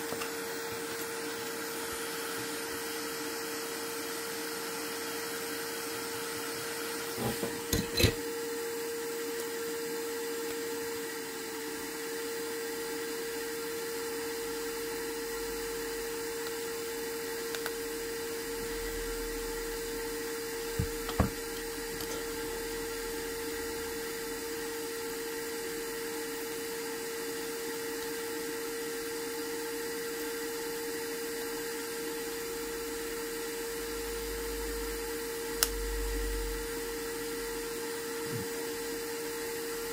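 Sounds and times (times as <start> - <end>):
small fan whirring: 0.0 - 39.9.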